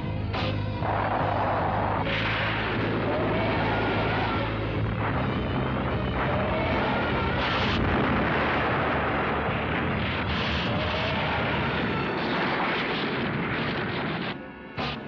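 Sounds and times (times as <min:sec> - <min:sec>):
explosions rumbling and crashing: 0:00.8 - 0:14.4.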